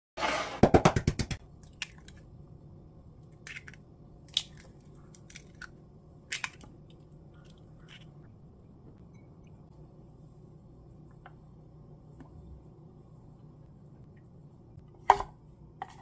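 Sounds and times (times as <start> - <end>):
faint low hum: 1.4 - 16.0.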